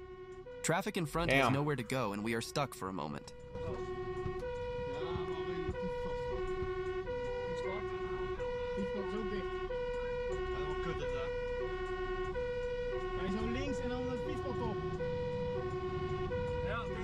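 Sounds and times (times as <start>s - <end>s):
fire truck two-tone siren: 0.0s - 17.0s.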